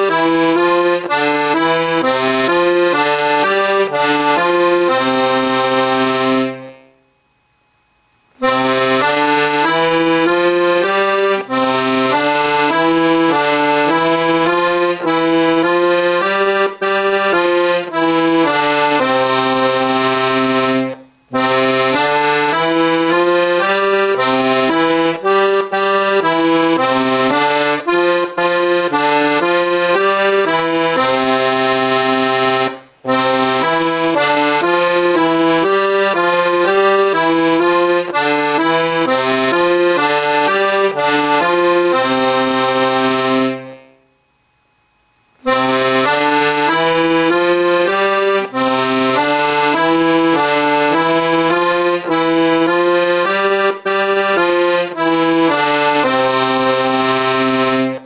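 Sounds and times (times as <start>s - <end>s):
piano accordion melody: 0.0s - 7.1s, 8.2s - 44.2s, 45.3s - 58.0s.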